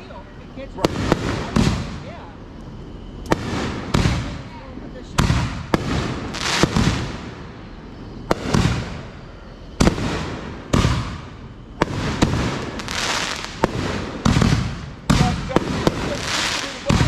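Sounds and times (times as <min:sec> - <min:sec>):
fireworks crackling: 0:00.0 - 0:17.0
firework bangs: 0:00.7 - 0:17.0.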